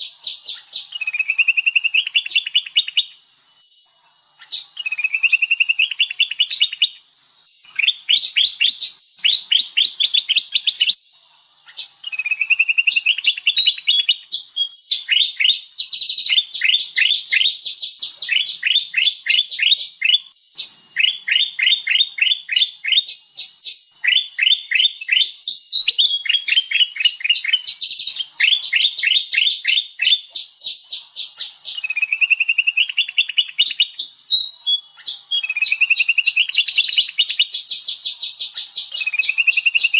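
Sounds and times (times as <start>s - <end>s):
bird chirping rapidly: 0.0s - 3.2s, 4.2s - 7.0s, 7.6s - 39.9s.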